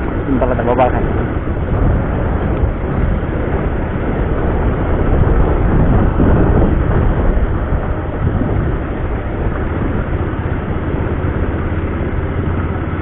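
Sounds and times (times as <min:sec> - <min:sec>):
motorcycle roar: 0:00.0 - 0:13.0.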